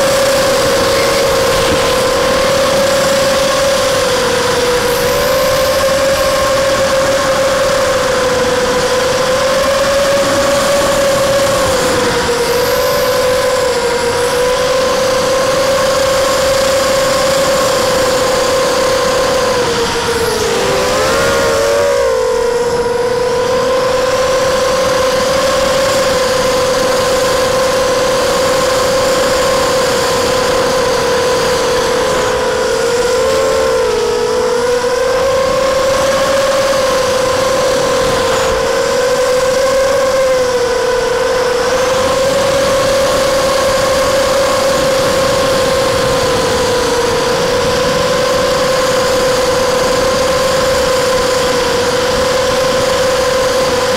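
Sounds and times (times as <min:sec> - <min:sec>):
drone propellers whining: 0:00.0 - 0:53.9.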